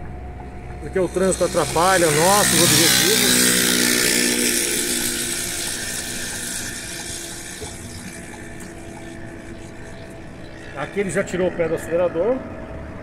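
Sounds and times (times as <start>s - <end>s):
diesel truck engine hum: 0.0s - 13.0s
road and wind hiss: 0.0s - 13.0s.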